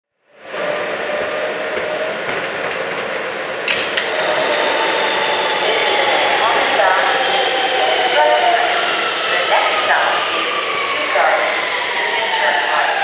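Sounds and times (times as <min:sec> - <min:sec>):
subway train running: 0:00.2 - 0:13.0.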